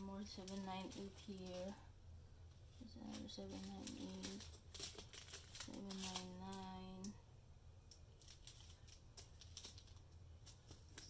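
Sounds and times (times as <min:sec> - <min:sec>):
plastic bags crinkling: 0:00.0 - 0:01.8, 0:02.6 - 0:07.1, 0:07.9 - 0:11.0.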